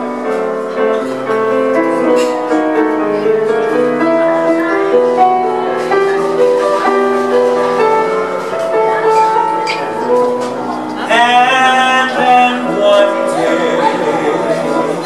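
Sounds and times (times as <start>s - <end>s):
piano: 0.0s - 15.0s.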